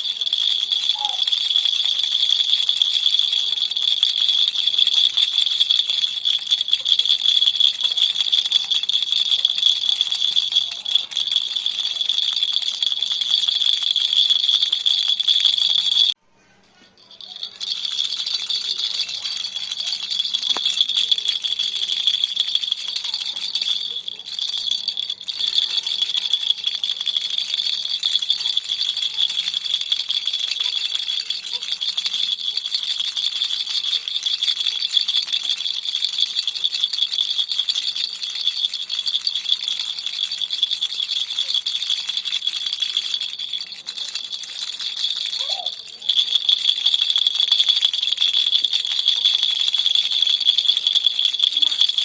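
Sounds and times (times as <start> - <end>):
baby rattle shaken: 0.0 - 16.2, 16.8 - 52.0.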